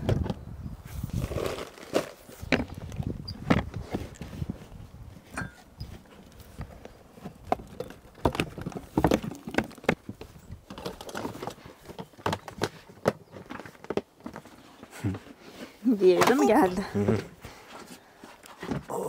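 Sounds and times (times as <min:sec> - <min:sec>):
camping gear knocks and rustling: 0:01.1 - 0:19.0.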